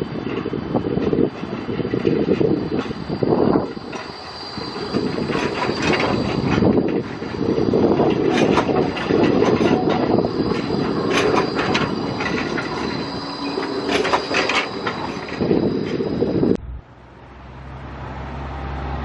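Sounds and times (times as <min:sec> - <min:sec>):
tram squealing on track: 0:00.0 - 0:16.6
tram clicks: 0:00.0 - 0:16.8
wind buffeting microphone: 0:00.0 - 0:16.9.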